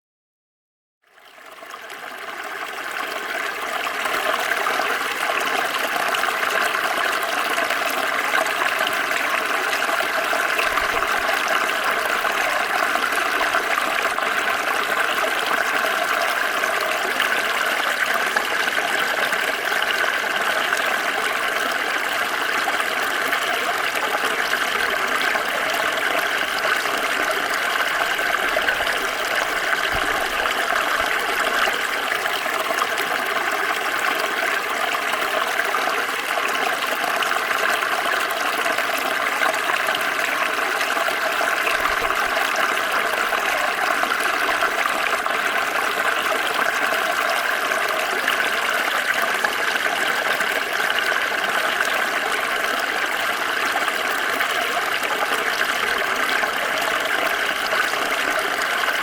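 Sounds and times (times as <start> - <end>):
stream flowing over stones: 1.2 - 59.0.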